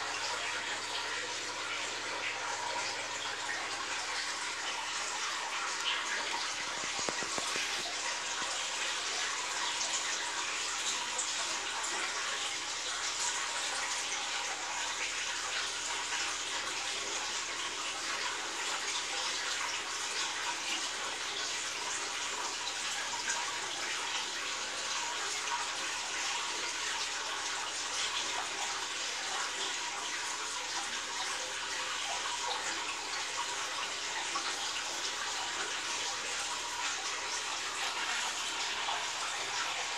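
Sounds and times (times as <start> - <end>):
fish tank water splashing: 0.0 - 39.9.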